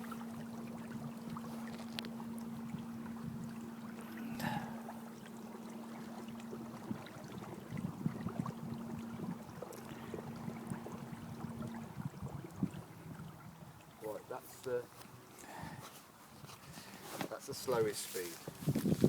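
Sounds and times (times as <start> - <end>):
water lapping against hull: 0.0 - 19.0.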